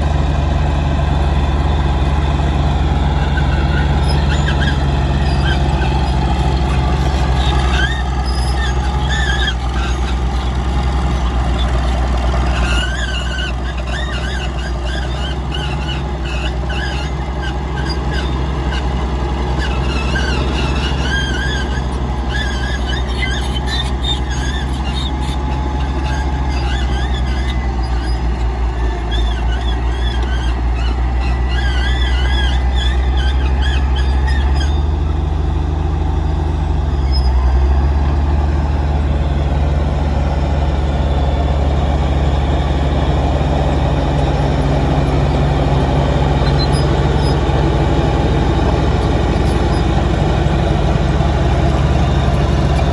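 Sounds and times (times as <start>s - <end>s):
diesel engine under load: 0.0s - 52.9s
metallic squeal of crawler tracks: 1.5s - 52.9s.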